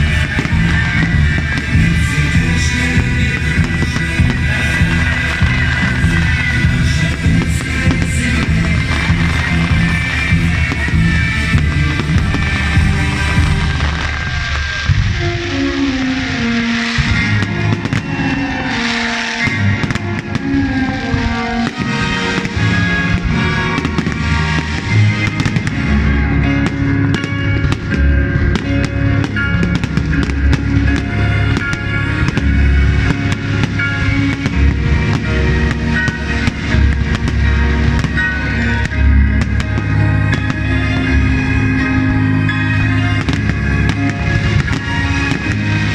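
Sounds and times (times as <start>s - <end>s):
fireworks bangs: 0.0s - 45.9s
heavy bass beat: 0.0s - 45.9s
loud music: 0.0s - 45.9s.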